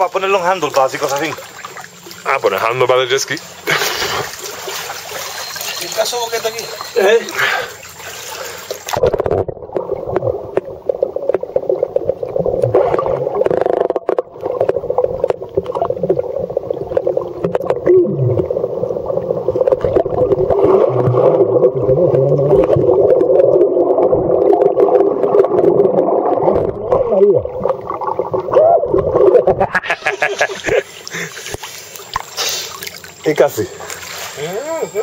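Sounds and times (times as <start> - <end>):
water churning underwater: 0.0 - 35.0.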